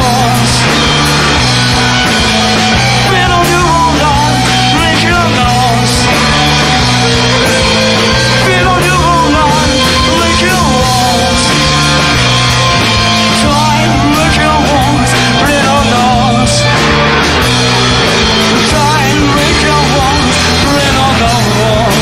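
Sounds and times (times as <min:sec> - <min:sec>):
bass line: 0:00.0 - 0:22.0
live rock band playing: 0:00.0 - 0:22.0.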